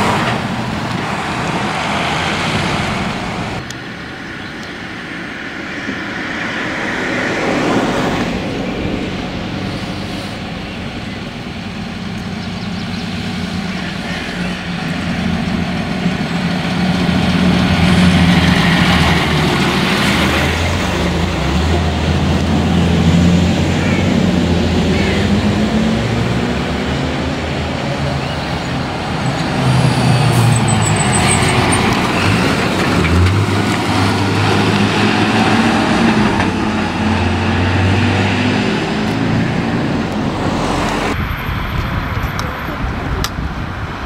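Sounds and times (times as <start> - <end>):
fire engines driving past: 0.0 - 44.0.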